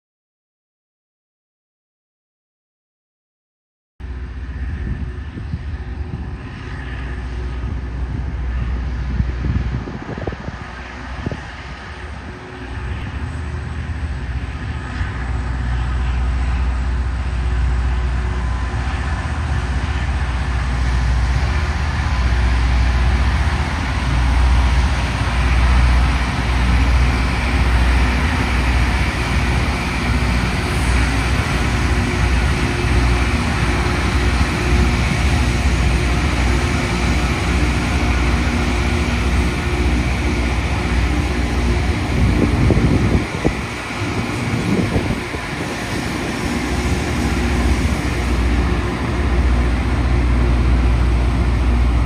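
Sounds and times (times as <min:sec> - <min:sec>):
rail grinder train roaring: 0:04.0 - 0:52.0.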